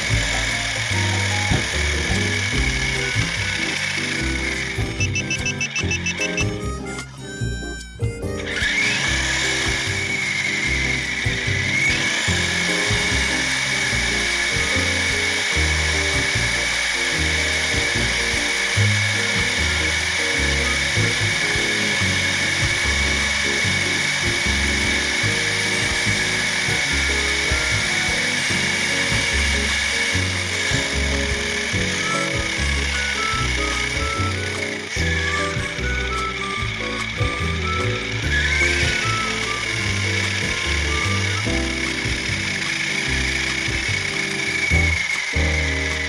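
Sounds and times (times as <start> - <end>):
electric motor whine: 0.0 - 46.0
music with pulsing bass: 0.0 - 46.0.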